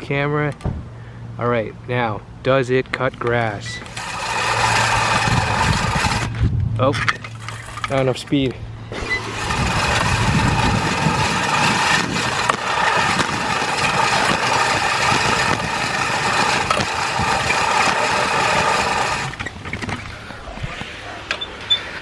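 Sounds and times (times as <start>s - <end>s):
reel mower whirring clatter: 3.2s - 22.0s.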